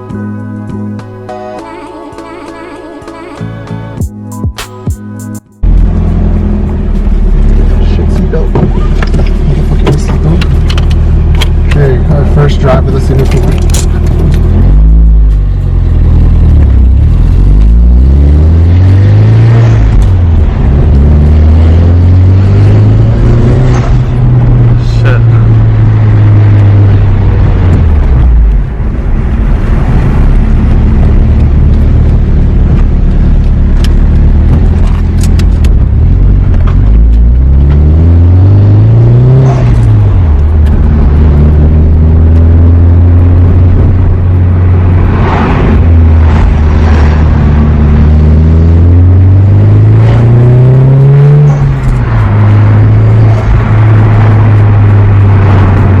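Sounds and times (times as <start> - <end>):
car engine droning: 5.6 - 56.0.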